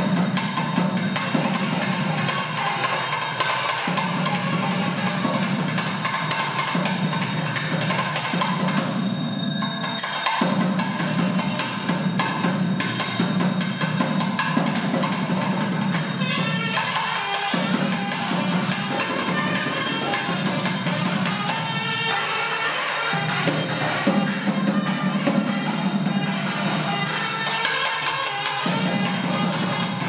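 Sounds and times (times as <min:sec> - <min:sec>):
bells ringing: 0:00.0 - 0:30.0
drums beating steady rhythm: 0:00.0 - 0:30.0.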